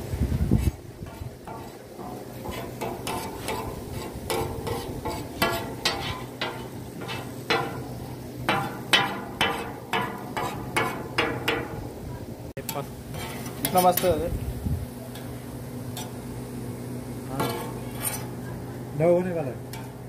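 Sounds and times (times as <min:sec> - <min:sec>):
metal ladle scraping griddle: 0:00.4 - 0:12.0, 0:12.6 - 0:14.4, 0:15.1 - 0:20.0.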